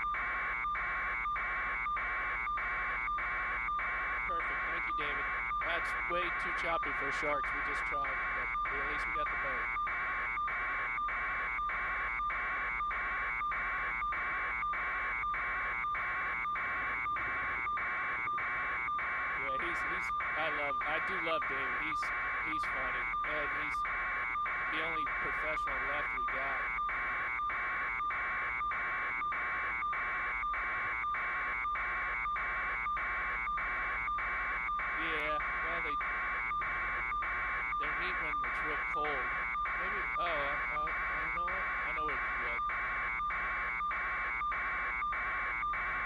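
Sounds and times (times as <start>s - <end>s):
electronic interference buzz: 0.0s - 46.0s.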